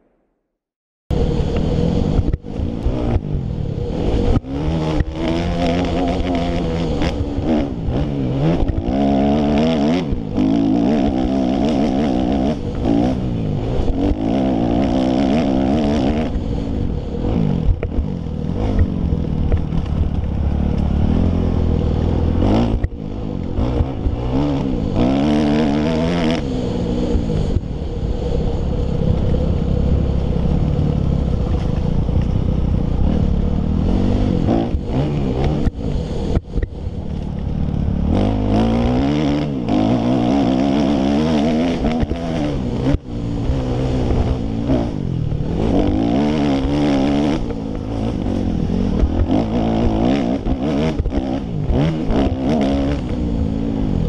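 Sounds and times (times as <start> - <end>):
wind: 0.0 - 0.3, 1.1 - 54.0
dirt bike engine revving: 1.1 - 54.0.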